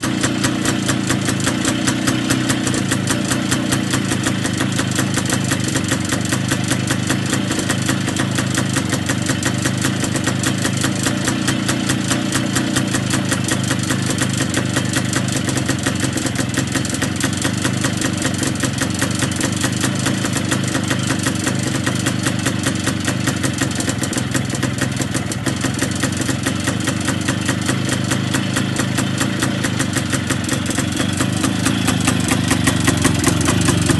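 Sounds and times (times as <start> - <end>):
two-stroke motorcycle engine running: 0.0 - 33.9.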